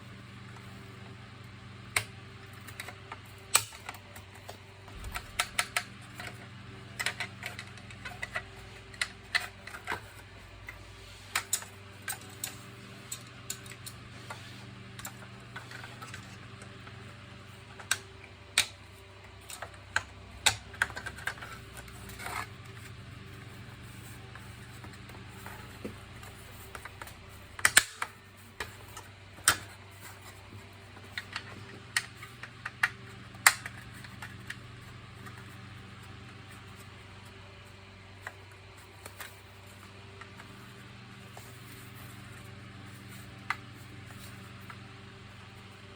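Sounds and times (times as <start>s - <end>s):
steady low hum: 0.0s - 45.9s
plastic parts clicking and clacking: 1.9s - 45.8s.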